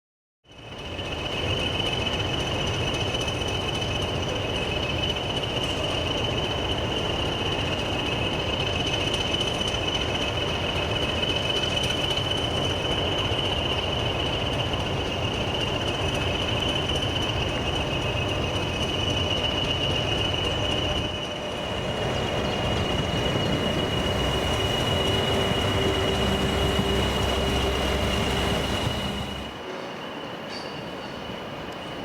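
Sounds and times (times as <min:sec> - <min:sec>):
train rumbling: 0:00.5 - 0:32.0.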